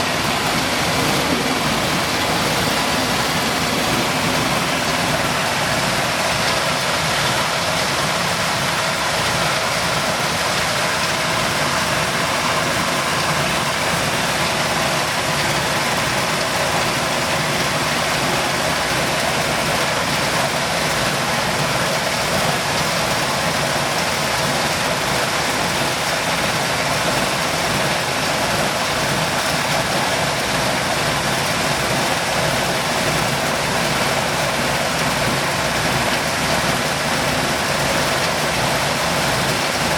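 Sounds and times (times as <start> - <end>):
milling machine running: 0.0 - 39.9.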